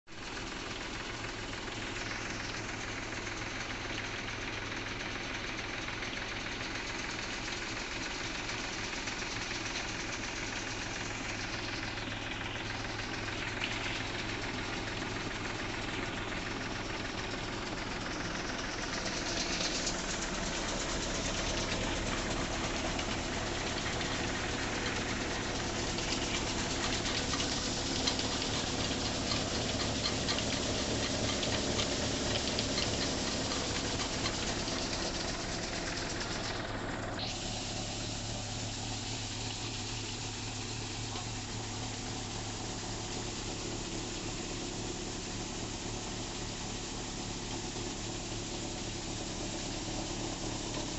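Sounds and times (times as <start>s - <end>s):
tractor engine running: 0.1s - 50.9s
grain cleaner rattling and whirring: 8.6s - 50.9s.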